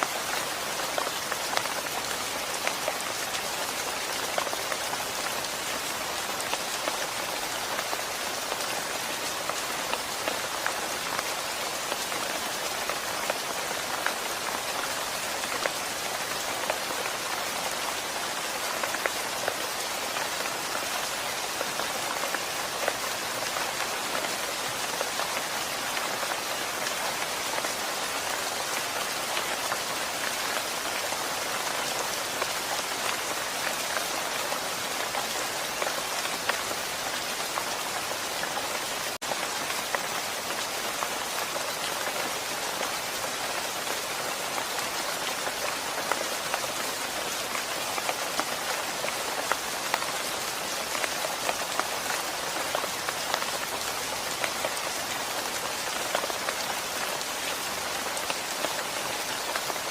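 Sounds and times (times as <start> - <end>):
rain hitting a surface: 0.0 - 59.9.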